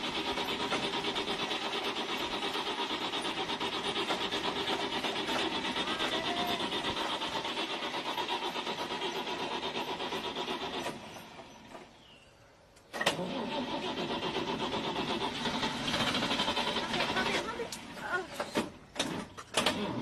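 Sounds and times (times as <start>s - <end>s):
starter motor cranking engine: 0.0s - 12.2s, 12.8s - 20.0s.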